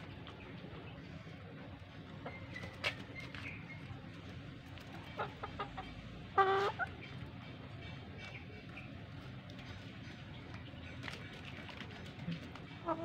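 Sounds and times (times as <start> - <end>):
chicken clucking: 0.3 - 13.0.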